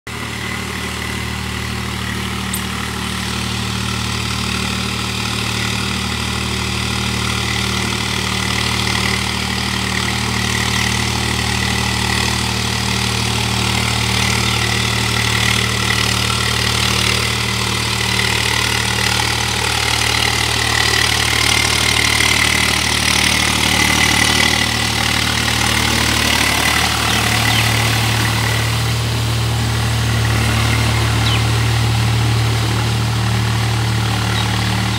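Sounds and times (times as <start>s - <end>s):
tractor diesel engine under load: 0.0s - 34.9s
rotavator churning flooded field: 0.1s - 34.9s.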